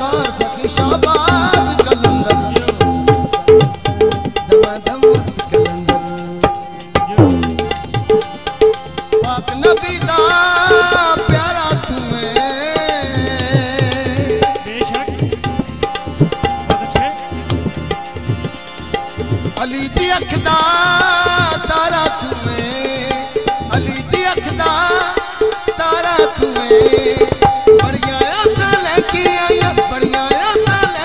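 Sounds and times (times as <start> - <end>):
fast hand drum rhythm: 0.0 - 31.0
harmonium: 0.0 - 31.0.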